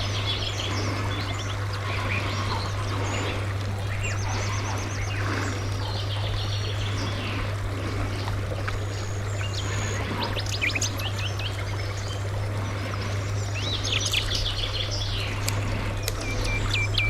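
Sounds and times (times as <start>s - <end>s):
songbirds singing: 0.0s - 17.0s
steady low hum: 0.0s - 17.0s.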